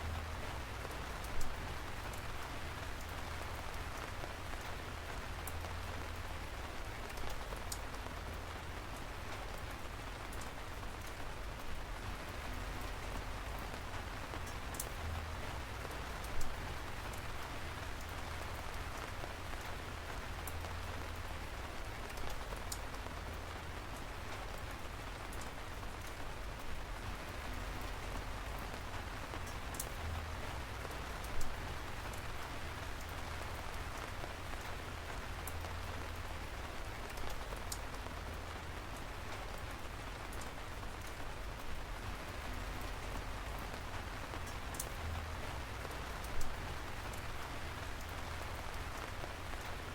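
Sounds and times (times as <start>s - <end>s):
raindrops ticking sharply: 0.0s - 49.9s
steady rain falling: 0.0s - 49.9s.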